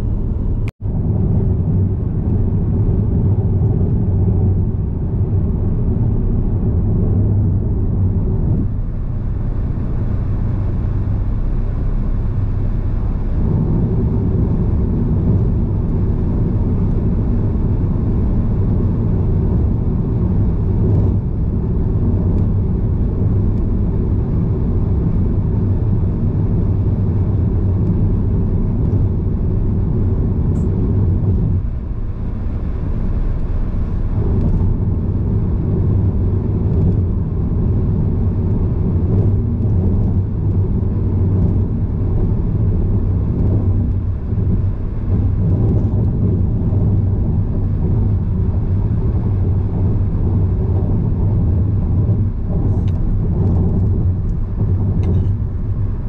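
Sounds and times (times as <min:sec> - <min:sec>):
car driving on highway: 0:00.0 - 0:56.0.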